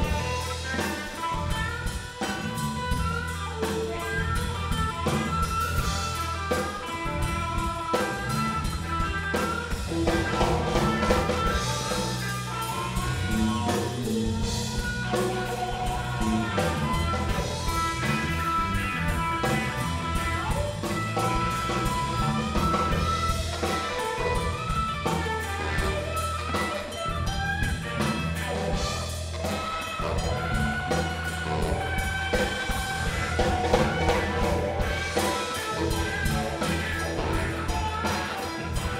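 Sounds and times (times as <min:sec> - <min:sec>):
bass guitar: 0:00.0 - 0:38.9
drum kit: 0:00.0 - 0:38.9
electric guitar: 0:00.0 - 0:38.9
saxophone: 0:00.0 - 0:38.9.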